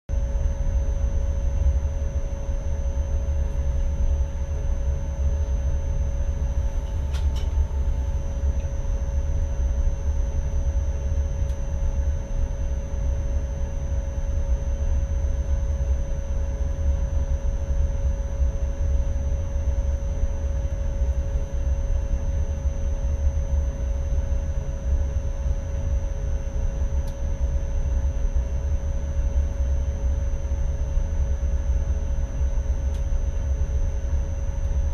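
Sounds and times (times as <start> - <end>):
constant hum: 0.1 - 34.9
train low rumble: 0.1 - 34.9.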